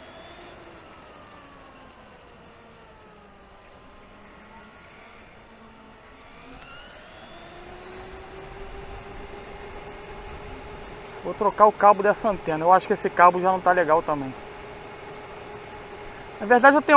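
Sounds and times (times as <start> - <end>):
electric toy truck motor whine: 0.0 - 16.9.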